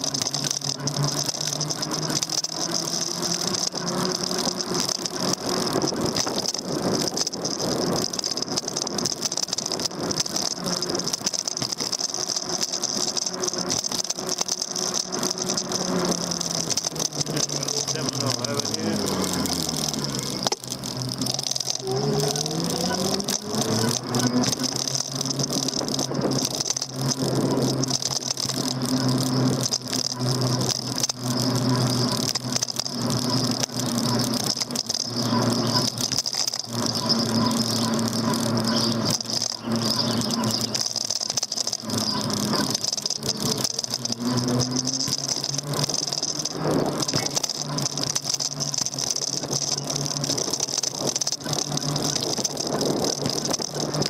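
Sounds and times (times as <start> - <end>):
e-bike rattling and clicking: 0.0 - 54.0
electric motor hum: 0.0 - 54.0.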